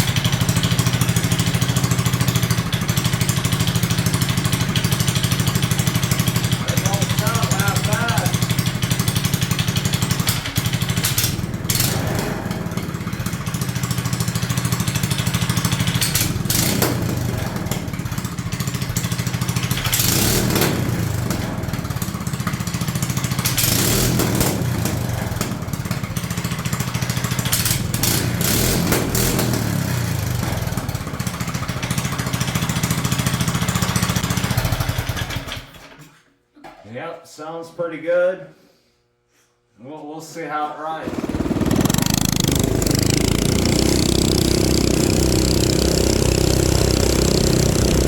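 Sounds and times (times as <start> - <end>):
small engine idling and revving: 0.0 - 35.9, 41.0 - 48.0.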